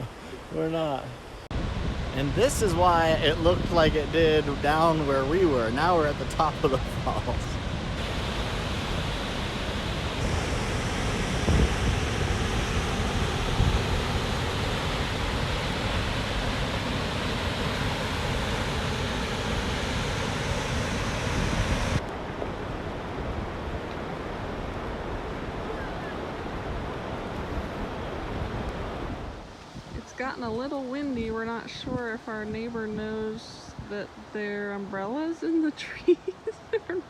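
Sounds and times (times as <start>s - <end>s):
wind buffeting microphone: 1.2s - 35.7s.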